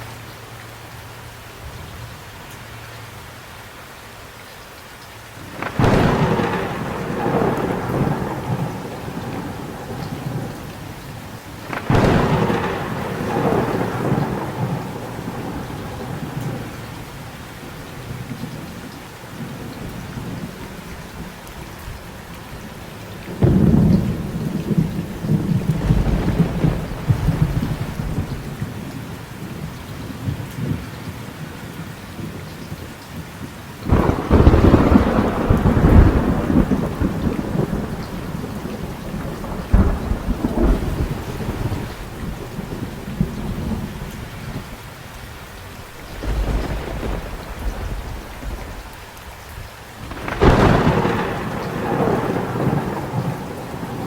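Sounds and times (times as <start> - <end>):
steady rain: 0.0 - 54.0
thunder cracking and rumbling: 5.4 - 30.9, 33.8 - 54.0.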